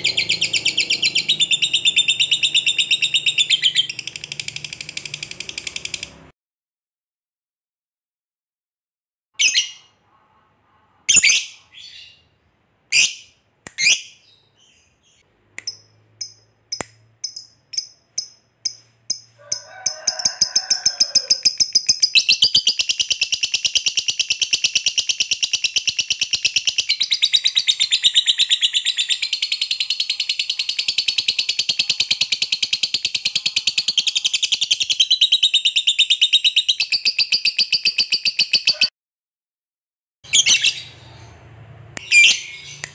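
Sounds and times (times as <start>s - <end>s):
lovebird chirping and trilling: 0.0s - 6.2s, 9.4s - 10.0s, 11.1s - 19.3s, 20.9s - 38.9s, 40.3s - 42.9s.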